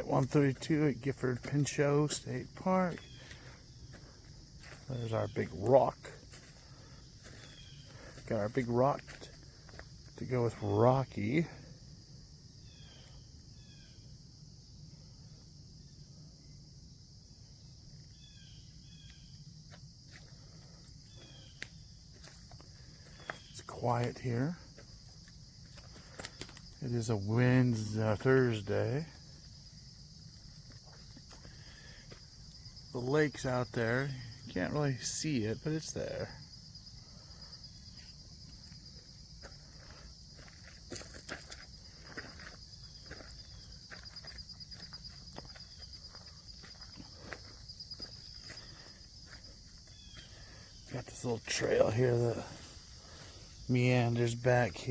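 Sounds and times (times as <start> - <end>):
light footsteps and crunches: 0.0 - 11.2, 19.0 - 33.8, 35.9 - 54.9
insects chorus hissing: 0.0 - 54.9
short insect chirps: 0.3 - 10.6, 11.7 - 54.9.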